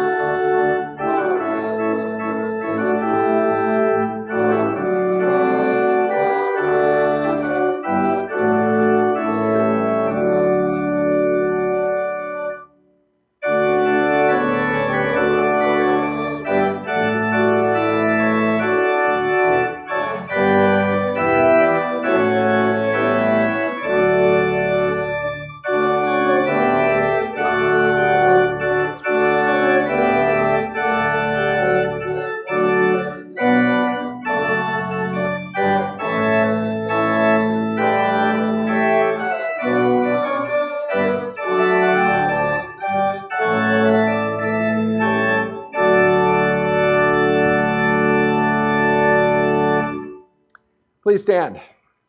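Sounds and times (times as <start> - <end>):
church organ playing chords: 0.0 - 12.7, 13.4 - 50.3.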